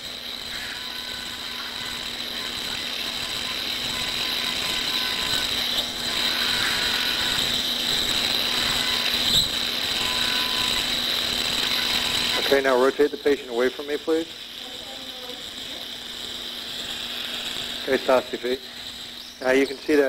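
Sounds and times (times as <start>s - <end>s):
suction hiss: 0.0s - 20.0s
surgical drill whining: 0.0s - 20.0s.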